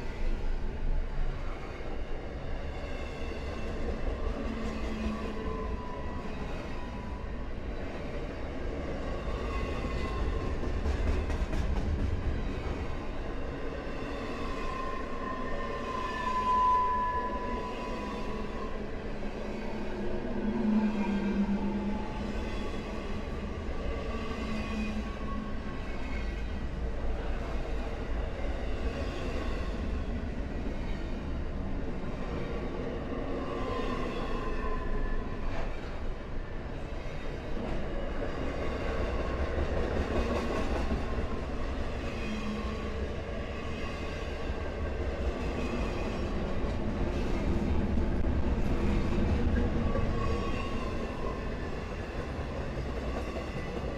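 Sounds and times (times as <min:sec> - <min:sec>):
freight train wheels rumbling on rail: 0:00.0 - 0:16.4, 0:17.3 - 0:53.9.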